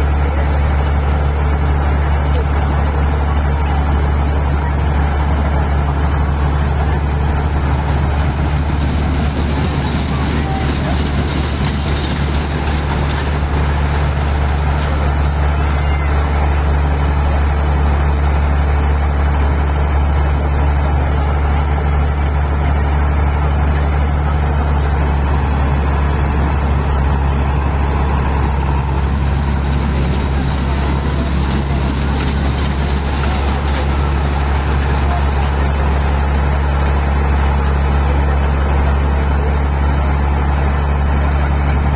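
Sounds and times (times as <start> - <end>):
toy train ride engine humming: 0.0 - 41.9.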